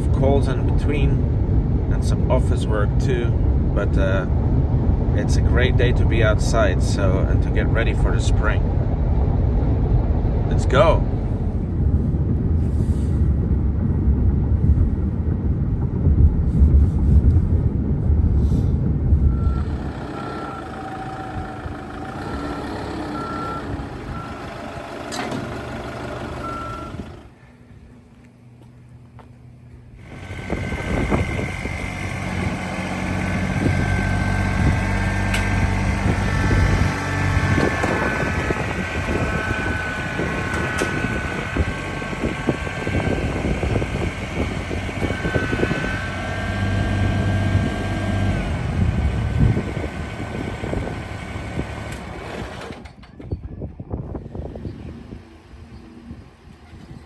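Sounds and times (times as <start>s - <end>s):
vehicle engine running: 0.0s - 52.8s
steady high whine: 0.0s - 52.9s.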